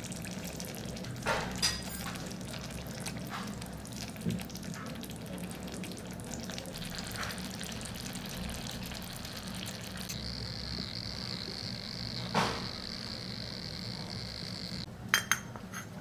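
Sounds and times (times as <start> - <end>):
food sizzling in a pan: 0.0 - 14.9.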